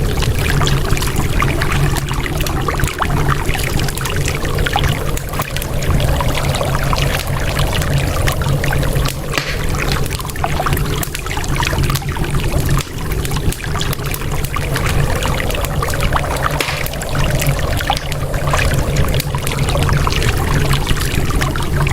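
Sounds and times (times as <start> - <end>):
low steady rumble: 0.0 - 21.9
water flowing and splashing: 0.0 - 21.9
wood fire crackling: 0.0 - 21.9.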